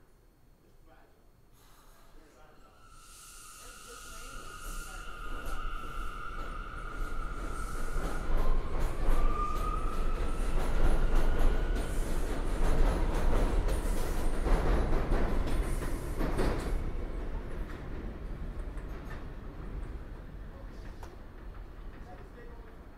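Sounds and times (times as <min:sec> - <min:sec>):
subway train whine: 0:01.7 - 0:22.9
train wheels rumbling on track: 0:03.9 - 0:22.9.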